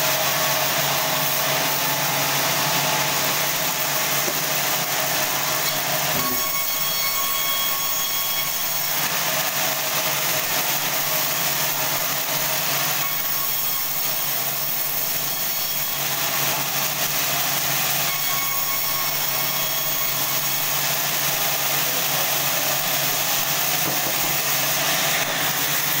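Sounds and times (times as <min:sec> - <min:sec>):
band saw running: 0:00.0 - 0:26.0.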